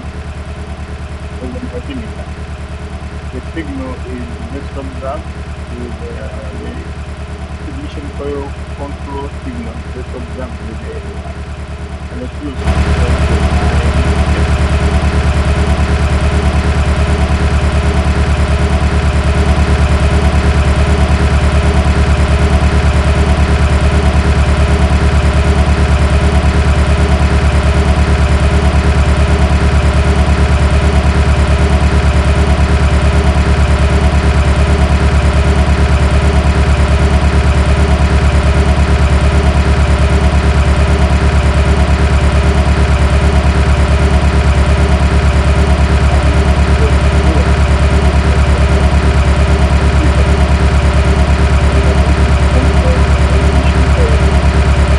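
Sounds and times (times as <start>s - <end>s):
car engine idling with misfire: 0.0s - 54.9s.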